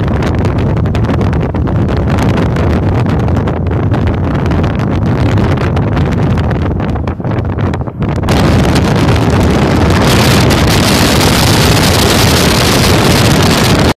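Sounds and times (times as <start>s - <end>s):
vehicle rumble: 0.0s - 14.0s
wind buffeting microphone: 0.0s - 14.0s.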